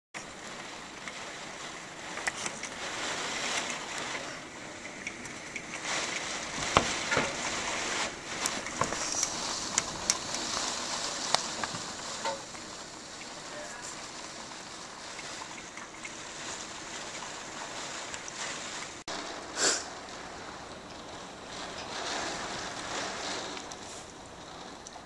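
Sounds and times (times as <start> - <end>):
gusting wind and rain: 0.2 - 25.0.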